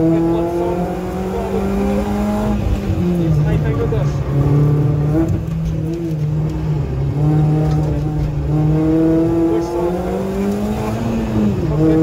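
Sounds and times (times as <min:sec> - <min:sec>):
car engine revving from cabin: 0:00.0 - 0:12.0.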